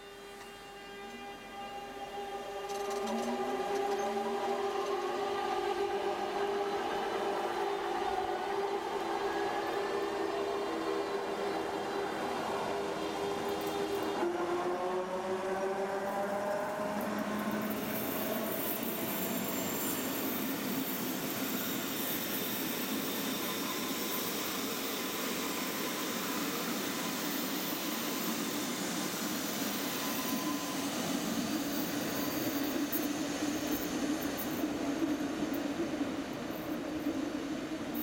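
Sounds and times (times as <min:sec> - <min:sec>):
train wheels rumbling on rails: 0:02.0 - 0:38.0.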